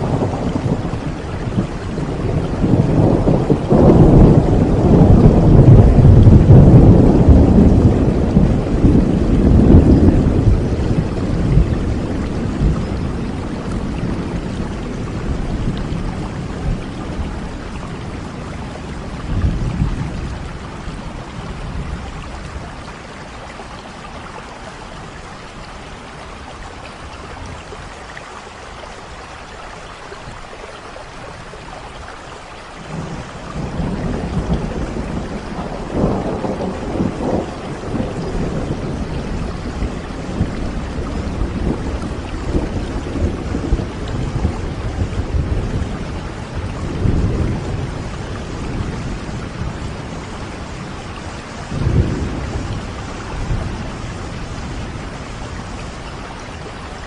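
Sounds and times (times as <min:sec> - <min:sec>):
thunder rumbling: 0:00.0 - 0:27.9, 0:32.8 - 0:57.0
heavy rain: 0:00.0 - 0:57.0.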